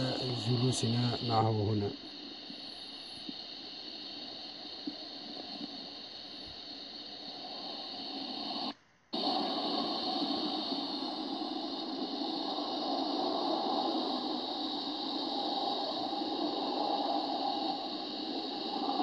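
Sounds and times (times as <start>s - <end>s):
background hiss: 0.0s - 19.0s
faint high hum: 0.0s - 19.0s.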